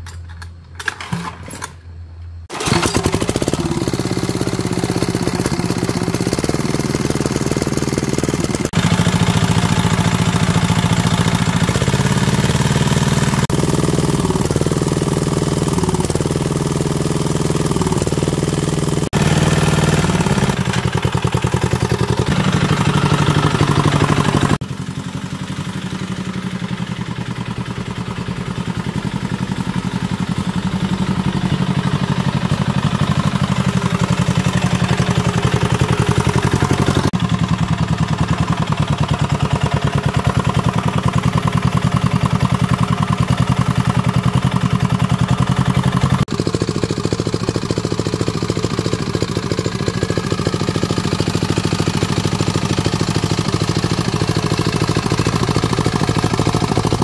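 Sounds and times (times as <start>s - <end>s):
diesel engine running: 2.5s - 57.0s.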